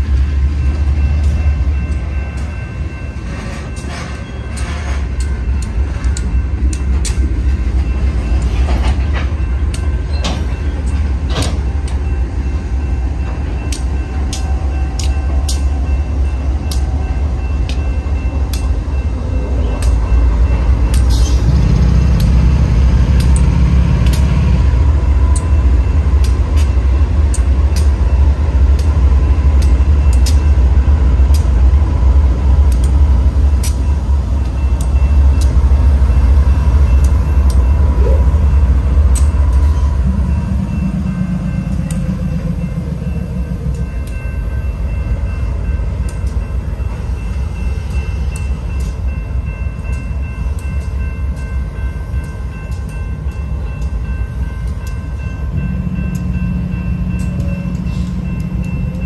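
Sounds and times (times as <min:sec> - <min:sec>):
crossing signal bell ringing: 0:00.0 - 0:32.4, 0:33.0 - 0:59.0
diesel locomotive engine rumble: 0:00.0 - 0:59.0.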